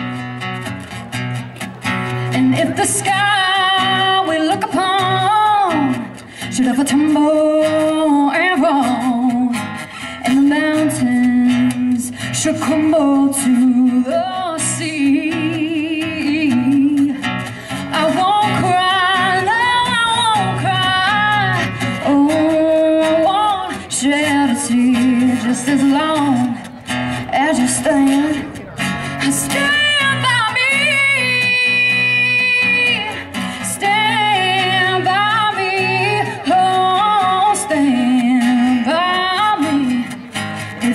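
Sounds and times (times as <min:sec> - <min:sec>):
strummed acoustic guitar: 0:00.0 - 0:40.9
woman singing into microphone: 0:02.1 - 0:40.9.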